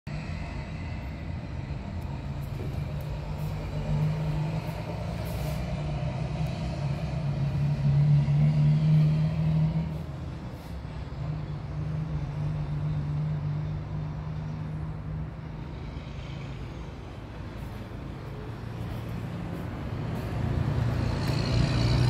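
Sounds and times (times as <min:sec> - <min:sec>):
vehicle engine rumble: 0:00.1 - 0:22.0.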